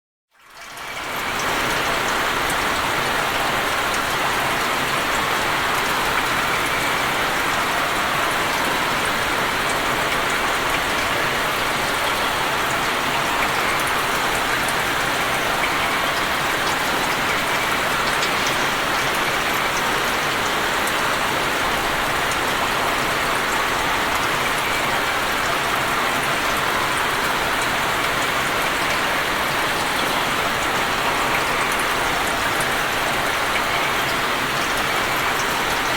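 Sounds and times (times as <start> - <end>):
rain falling on water: 0.3 - 35.9.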